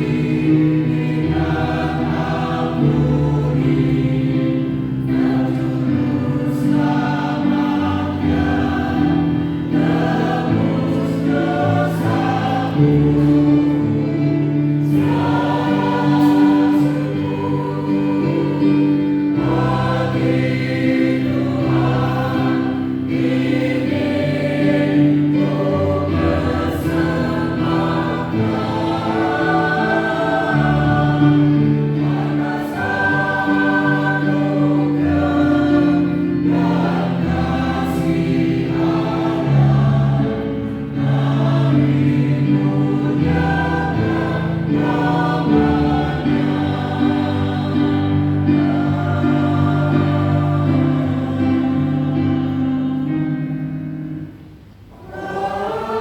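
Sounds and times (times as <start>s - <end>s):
church choir singing: 0.0s - 56.0s
piano accompaniment: 0.0s - 56.0s.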